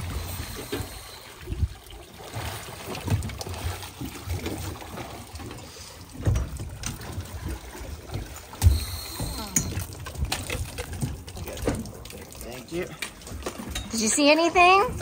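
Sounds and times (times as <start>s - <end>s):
water sloshing against boat: 0.0s - 15.0s.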